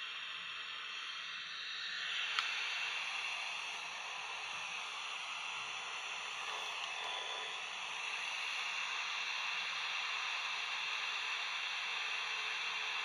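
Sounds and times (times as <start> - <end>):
radio static hiss: 2.1 - 13.0.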